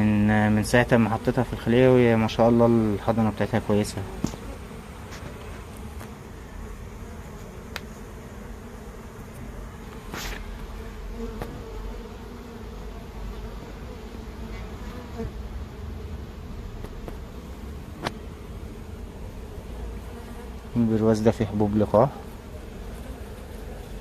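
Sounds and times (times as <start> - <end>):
honey bees buzzing: 0.0 - 24.0.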